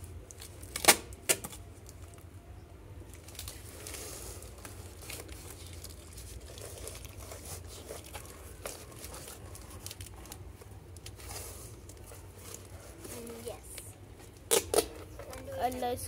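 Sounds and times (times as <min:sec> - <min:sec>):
paper and cardboard rustling: 0:03.1 - 0:16.0.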